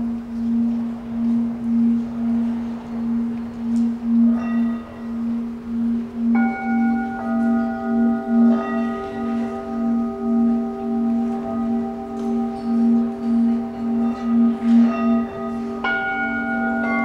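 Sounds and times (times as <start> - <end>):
pulsing low metal tone: 0.0 - 17.0
struck bell-like notes: 0.0 - 17.0.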